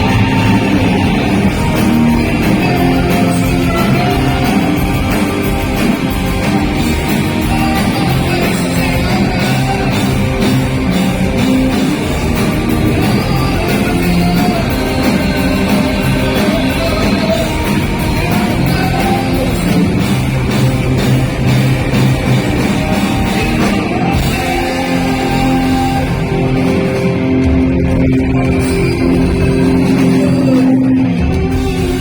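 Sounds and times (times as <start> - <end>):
electric guitar: 0.0 - 32.0
rock band playing live: 0.0 - 32.0.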